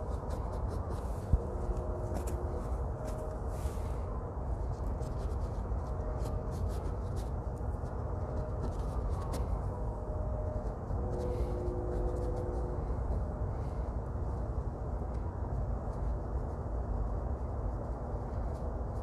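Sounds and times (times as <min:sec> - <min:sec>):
paintbrush scratching on canvas: 0:00.0 - 0:09.8, 0:10.5 - 0:19.0
low background rumble: 0:00.0 - 0:19.0.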